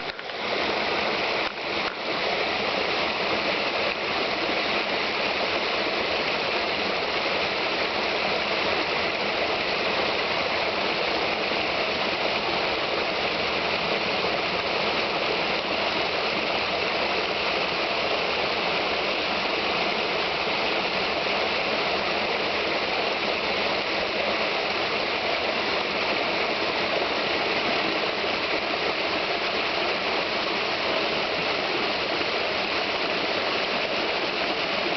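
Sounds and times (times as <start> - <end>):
brook babbling over stones: 0.0 - 34.9.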